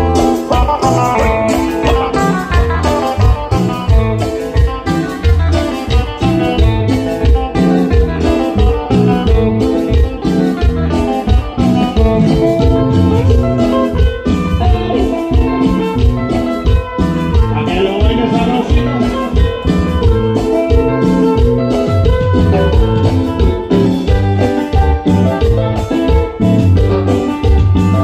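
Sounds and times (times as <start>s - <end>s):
guitar music with pulsing bass beat: 0.0s - 28.0s.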